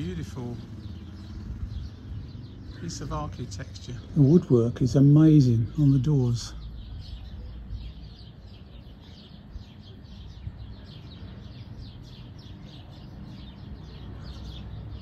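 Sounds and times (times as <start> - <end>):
birds chirping rapidly: 0.0 - 15.0.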